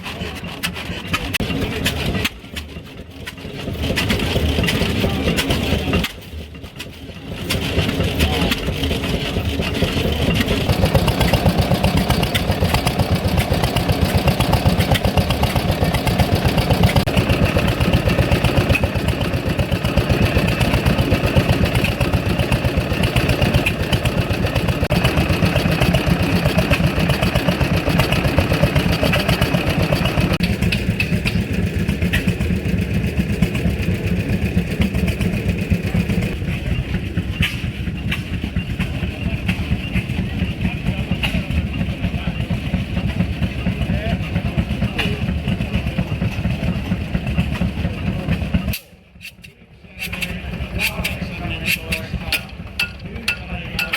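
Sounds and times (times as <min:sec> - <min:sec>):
engine running with pulsing beat: 0:00.0 - 0:53.9.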